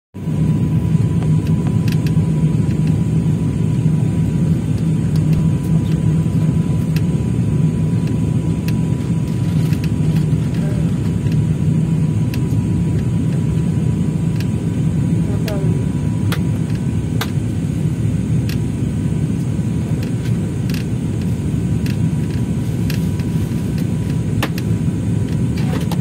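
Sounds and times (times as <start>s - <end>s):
jet engines rumbling in cabin: 0.2s - 26.0s.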